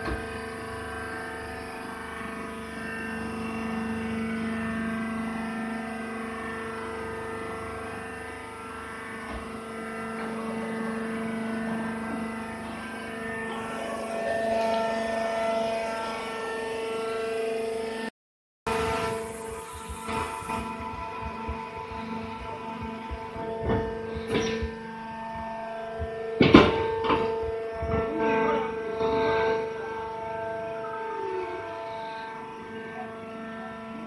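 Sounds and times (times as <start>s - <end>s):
press motor humming drone: 0.0s - 18.1s, 18.7s - 34.0s.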